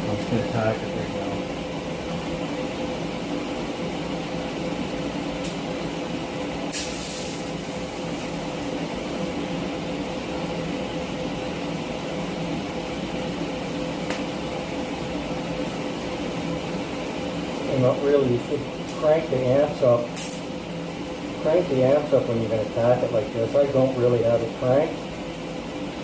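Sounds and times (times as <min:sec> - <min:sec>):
welding arc crackling: 0:00.0 - 0:25.0
shop machinery hum: 0:00.0 - 0:26.0.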